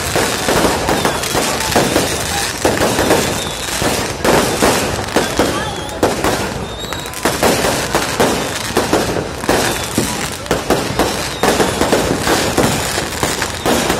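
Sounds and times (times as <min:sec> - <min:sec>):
fireworks bangs: 0:00.0 - 0:13.9
fireworks crackling: 0:00.0 - 0:13.9.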